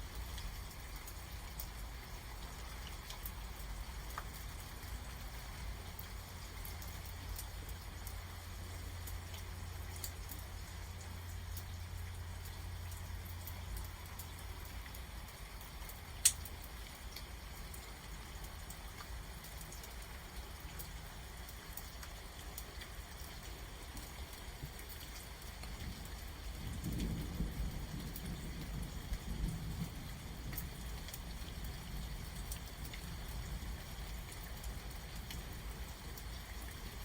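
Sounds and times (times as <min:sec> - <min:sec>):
rain pattering: 0:00.0 - 0:37.0.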